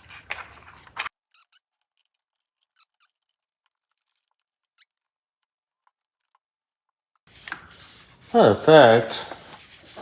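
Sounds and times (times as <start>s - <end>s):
scratchy rustles of handling: 0.0s - 10.0s.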